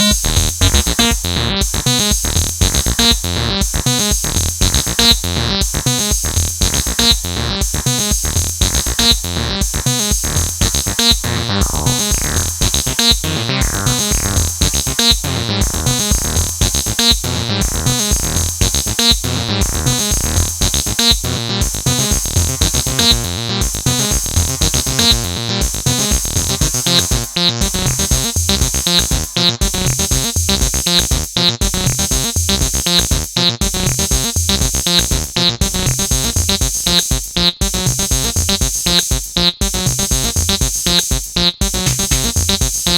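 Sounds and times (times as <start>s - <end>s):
drum machine beat: 0.0s - 42.9s
synthesizer bassline: 0.0s - 42.9s.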